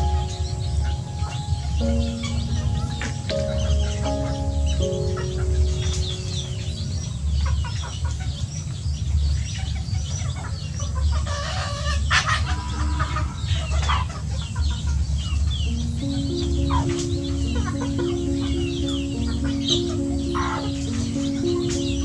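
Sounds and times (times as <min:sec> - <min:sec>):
young chickens clucking and peeping: 0:00.0 - 0:22.0.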